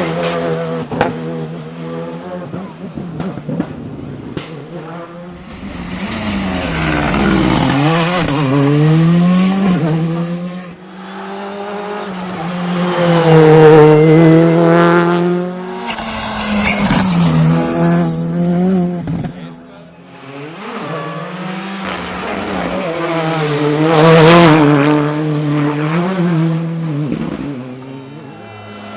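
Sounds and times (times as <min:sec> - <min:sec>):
rally car engine revving: 0:00.0 - 0:28.9.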